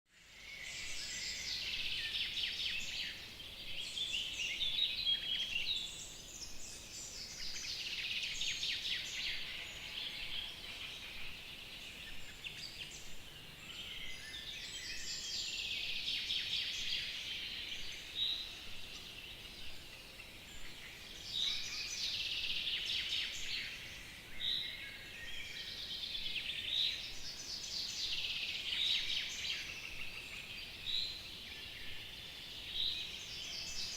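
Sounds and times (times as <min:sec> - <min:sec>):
faint outdoor hiss: 0:00.1 - 0:33.9
songbirds singing: 0:00.1 - 0:33.9.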